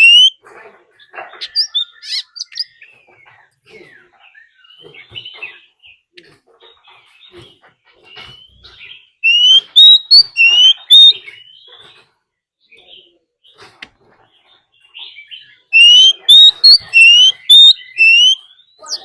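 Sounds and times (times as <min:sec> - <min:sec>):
bird singing: 0:00.0 - 0:19.0.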